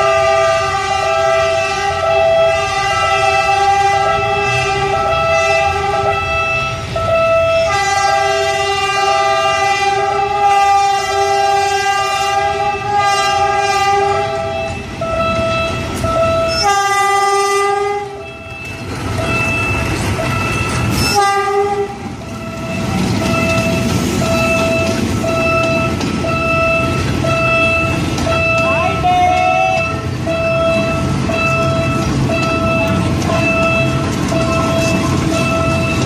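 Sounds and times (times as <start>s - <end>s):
locomotive horn blasts: 0.0s - 19.6s, 20.3s - 36.0s
train cars rumbling past: 0.0s - 36.0s.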